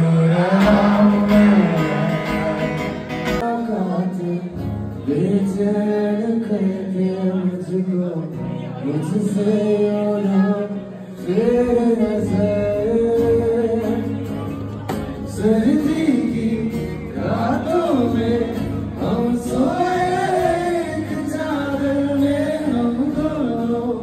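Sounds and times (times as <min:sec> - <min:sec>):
acoustic guitar strumming: 0:00.0 - 0:24.0
man singing slow melody: 0:00.0 - 0:24.0.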